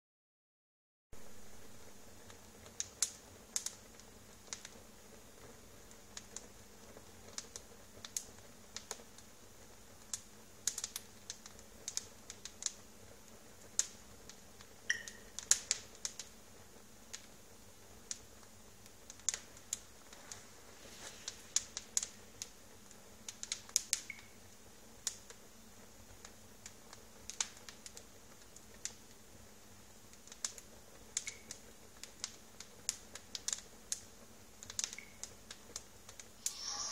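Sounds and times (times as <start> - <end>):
logs crackling in a fireplace: 1.2 - 36.9.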